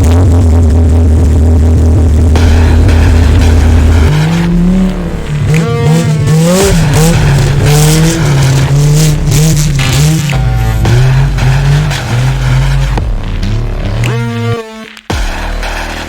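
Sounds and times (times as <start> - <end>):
race car engine revving: 0.0 - 16.0
tires squealing: 2.4 - 16.0.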